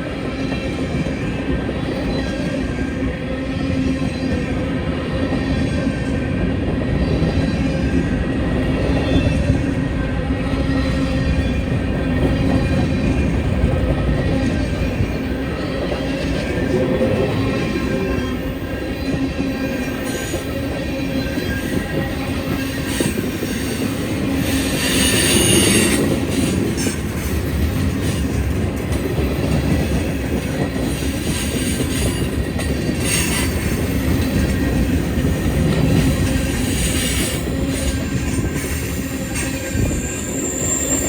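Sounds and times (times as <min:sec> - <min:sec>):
freight train rumbling past: 0:00.0 - 0:41.0
train wheel squeal: 0:00.0 - 0:41.0.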